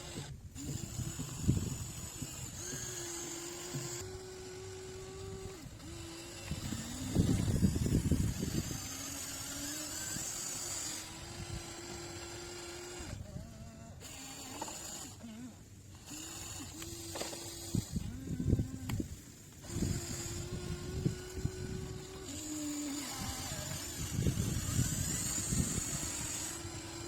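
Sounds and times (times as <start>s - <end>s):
toy excavator motor whining: 0.0s - 27.0s.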